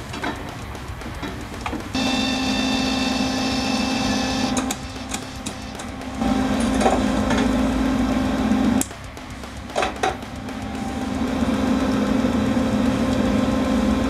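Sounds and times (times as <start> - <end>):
wire-feed motor hum: 0.0 - 14.0.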